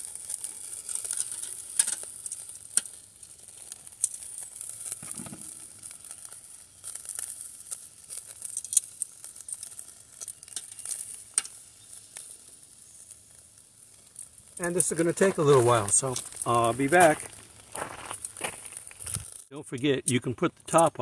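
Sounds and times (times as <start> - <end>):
patties sizzling on a grill: 0.0 - 21.0.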